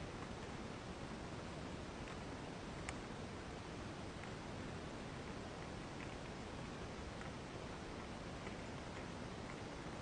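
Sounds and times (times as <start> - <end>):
recording hiss: 0.0 - 10.0.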